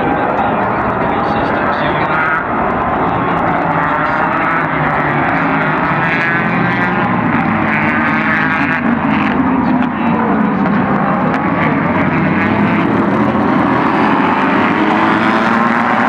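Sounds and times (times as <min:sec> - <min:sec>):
racing car engines at high revs: 0:00.0 - 0:16.0.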